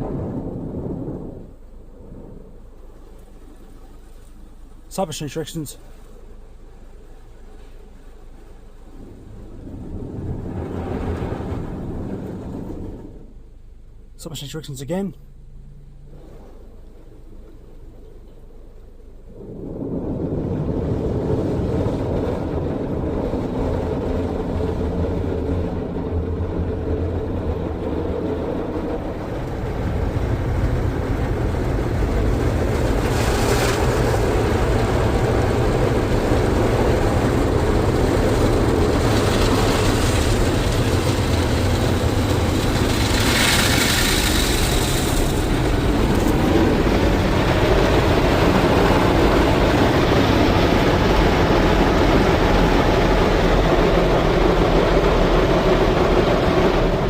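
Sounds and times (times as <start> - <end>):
car wash brushes rumbling: 0.0 - 57.0.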